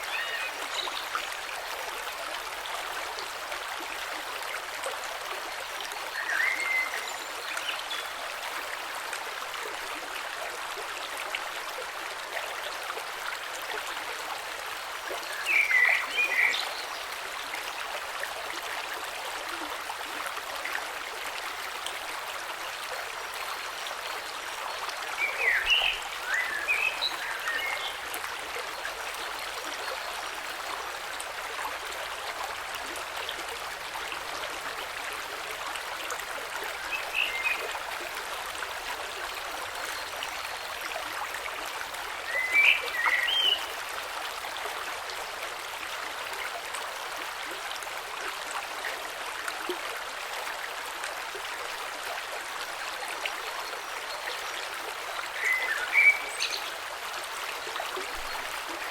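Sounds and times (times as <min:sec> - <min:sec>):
creek flowing over stones: 0:00.0 - 0:58.9.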